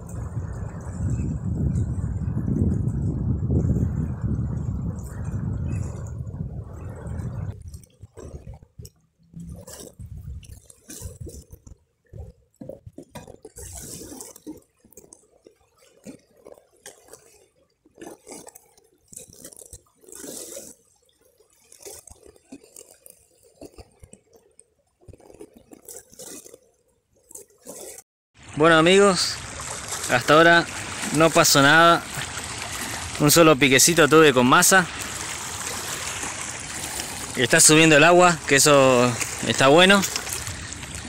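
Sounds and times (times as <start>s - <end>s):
waves lapping against rocks: 0.0s - 41.0s.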